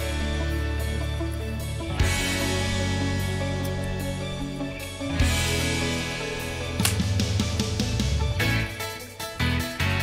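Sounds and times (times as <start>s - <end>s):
music with sustained chords and bass: 0.0s - 10.0s.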